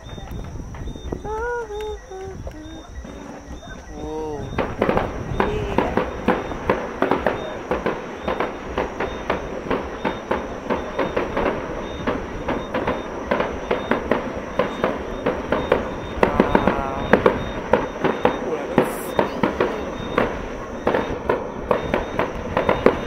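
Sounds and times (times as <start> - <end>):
fireworks bangs and pops: 0.0 - 23.0.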